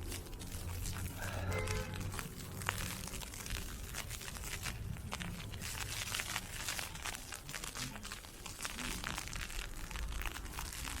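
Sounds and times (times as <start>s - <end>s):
ice pellets crackling: 0.0s - 11.0s.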